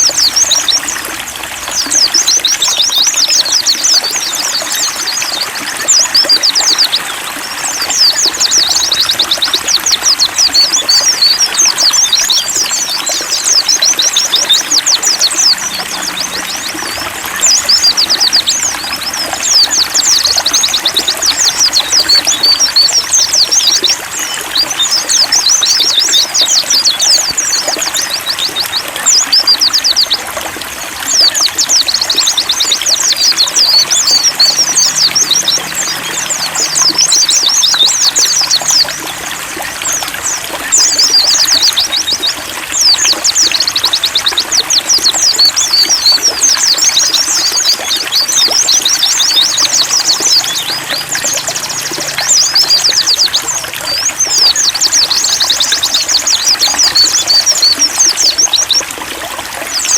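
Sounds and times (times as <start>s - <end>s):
birds twittering song: 0.0s - 59.9s
running water trickling: 0.0s - 59.9s.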